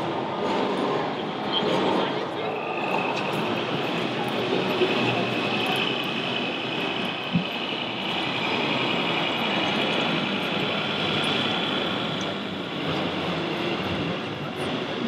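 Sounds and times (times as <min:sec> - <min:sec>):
model truck electric motors whining: 0:02.0 - 0:15.0.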